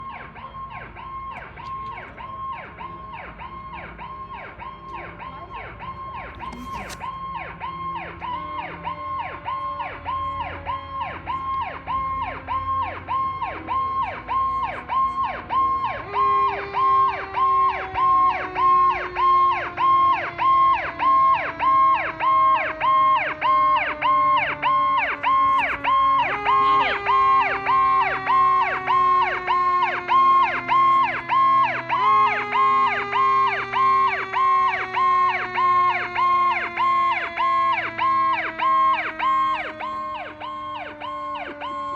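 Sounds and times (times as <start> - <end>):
fire truck siren wailing: 0.0 - 41.9
low falling siren tone: 0.0 - 41.9.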